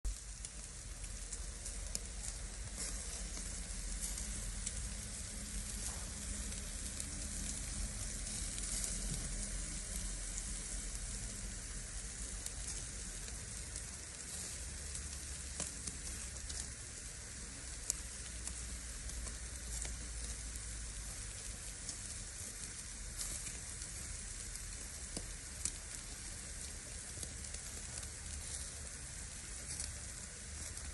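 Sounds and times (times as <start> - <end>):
food sizzling on a grill: 0.1 - 30.9.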